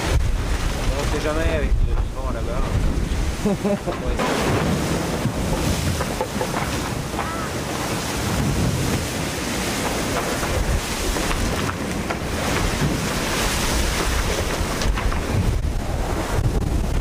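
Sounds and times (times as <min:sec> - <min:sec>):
rushing water and spray: 0:00.0 - 0:17.0
wind buffeting microphone: 0:00.0 - 0:17.0.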